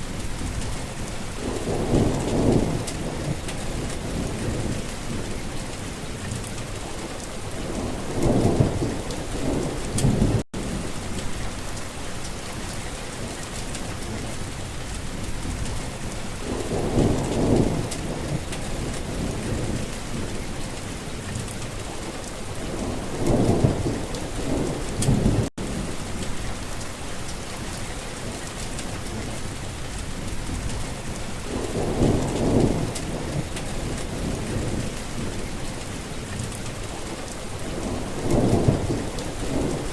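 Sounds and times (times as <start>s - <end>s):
thunder rumbling: 0.0s - 5.6s, 6.2s - 11.9s, 15.0s - 20.6s, 21.3s - 27.0s, 28.2s - 35.6s, 36.3s - 39.9s
heavy rain hissing: 0.0s - 39.9s.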